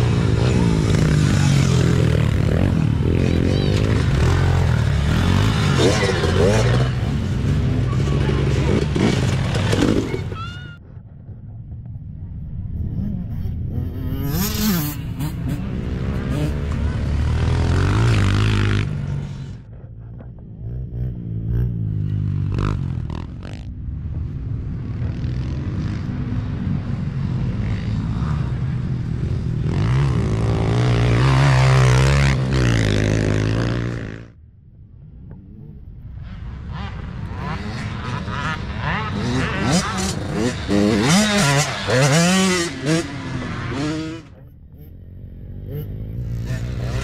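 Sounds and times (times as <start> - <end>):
dirt bike engines revving: 0.0 - 10.8, 12.6 - 34.4, 35.0 - 47.0.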